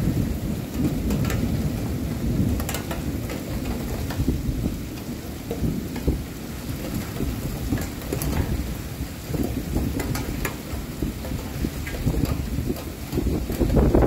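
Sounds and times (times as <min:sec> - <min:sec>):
heavy rain on street: 0:00.0 - 0:14.0
raindrops ticking close by: 0:00.0 - 0:14.0.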